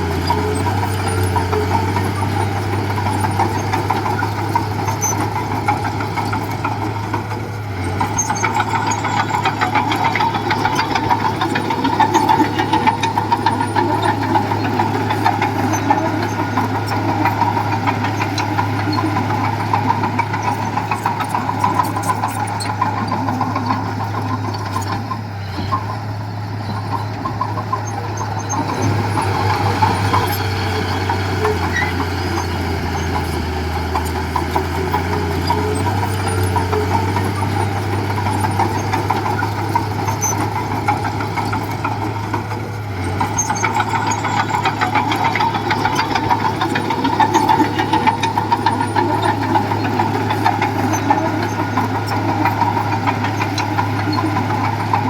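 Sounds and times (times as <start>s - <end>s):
heavy diesel machinery engine droning: 0.0s - 55.0s.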